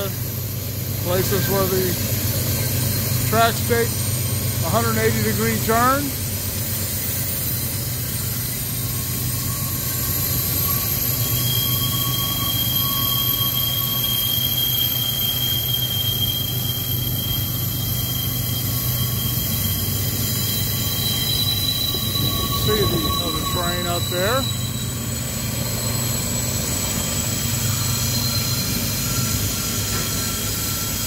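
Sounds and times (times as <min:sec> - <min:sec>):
low train rumble: 0:00.0 - 0:31.0
train wheels squealing on rail: 0:00.0 - 0:31.0.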